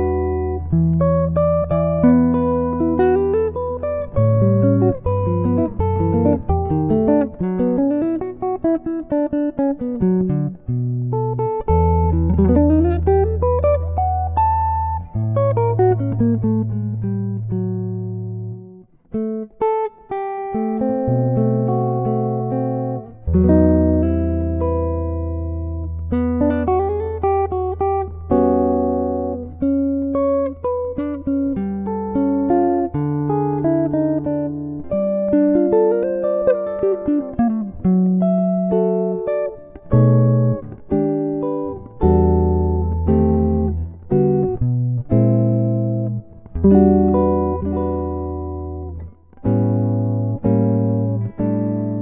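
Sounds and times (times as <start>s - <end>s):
solo jazz guitar: 0.0s - 52.0s.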